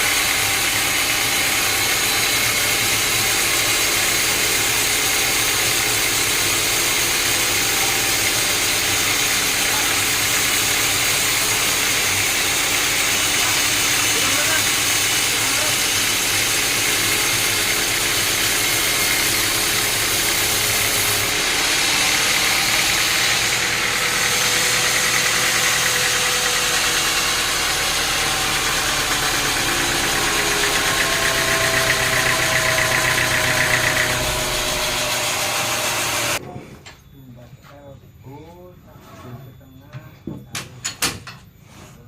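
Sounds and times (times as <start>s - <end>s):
sawmill machinery running: 0.0s - 36.4s.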